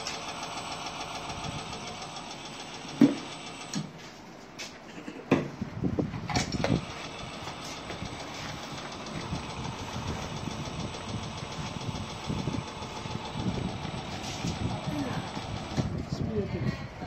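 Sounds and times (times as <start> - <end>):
filling machine rumbling: 0.0 - 4.3, 5.6 - 17.0.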